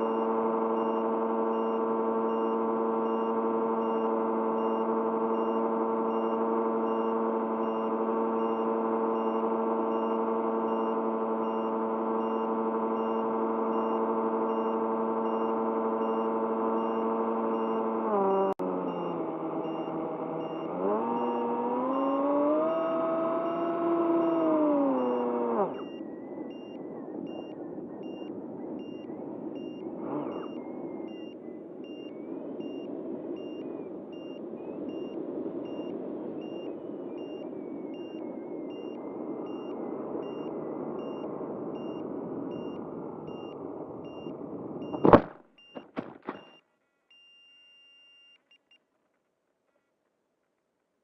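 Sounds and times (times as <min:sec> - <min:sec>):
electric motor and propeller whine: 0:00.0 - 0:45.1
short electronic beeps: 0:00.0 - 0:48.8.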